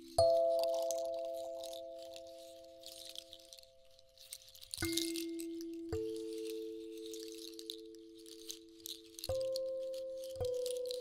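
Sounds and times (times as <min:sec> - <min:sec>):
soft high crackling patter: 0:00.0 - 0:11.0.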